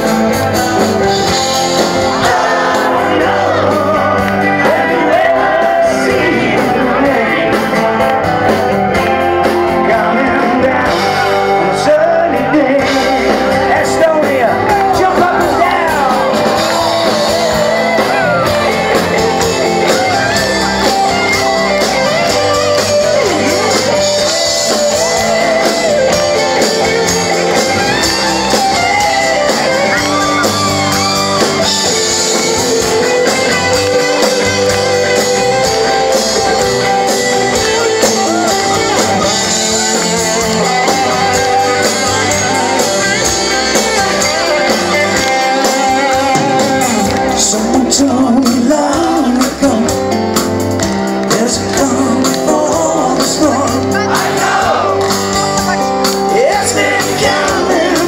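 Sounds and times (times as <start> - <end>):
live rock band: 0.0 - 58.0
person singing lead vocals: 0.0 - 58.0.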